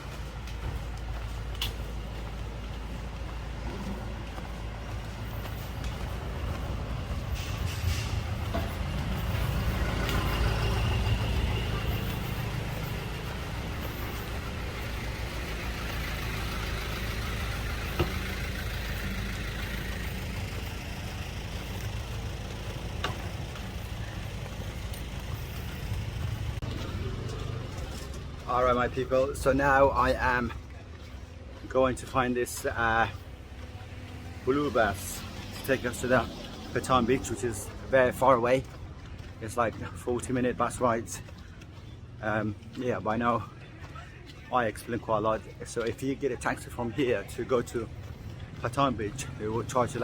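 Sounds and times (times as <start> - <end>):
vehicle engine rumble: 0.0 - 50.0.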